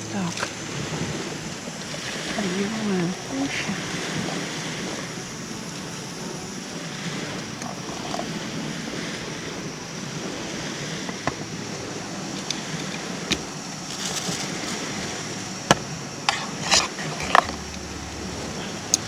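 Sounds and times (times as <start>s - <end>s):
lake waves: 0.0s - 19.0s
wind: 0.0s - 19.0s.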